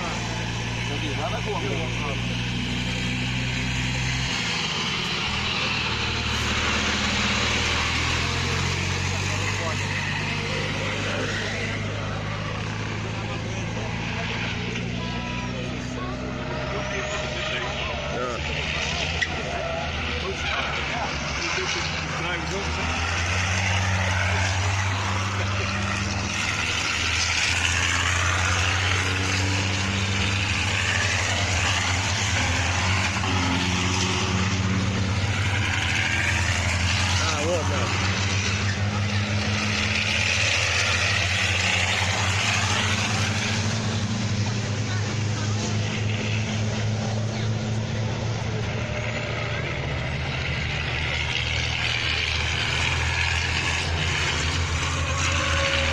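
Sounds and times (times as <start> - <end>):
racing truck engines: 0.0 - 55.9.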